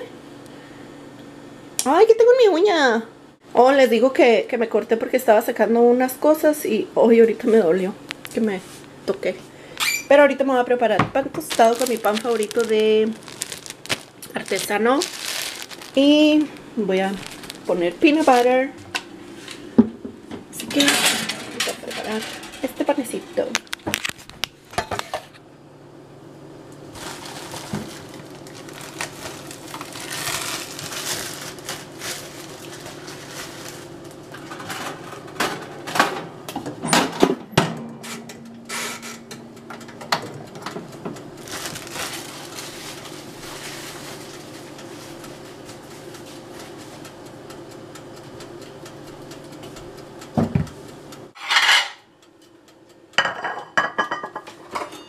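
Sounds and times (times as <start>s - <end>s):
steady low hum: 0.0s - 54.8s.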